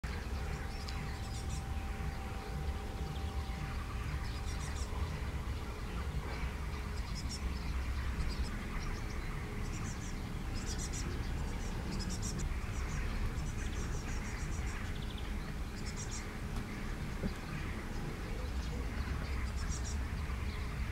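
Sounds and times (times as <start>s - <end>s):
steady low rumble: 0.0s - 20.9s.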